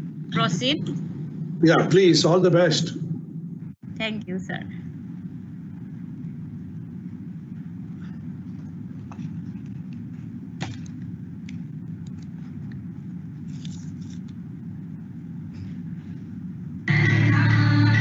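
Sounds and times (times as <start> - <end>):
microphone background hum: 0.0 - 18.0.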